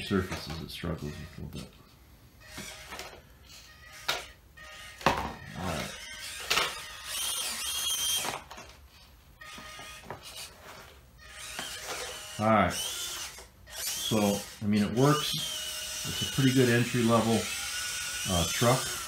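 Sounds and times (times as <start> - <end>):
small electric motor whining: 0.3 - 1.7, 2.4 - 19.0.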